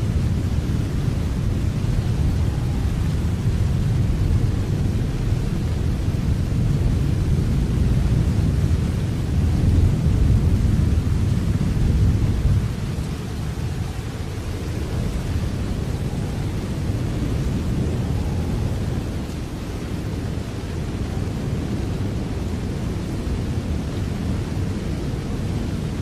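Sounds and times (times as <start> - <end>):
deep constant rumble: 0.0 - 26.0
rain falling: 0.0 - 26.0.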